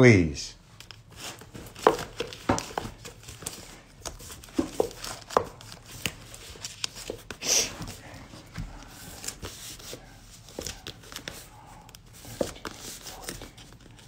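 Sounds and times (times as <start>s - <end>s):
objects being handled: 0.8s - 14.0s.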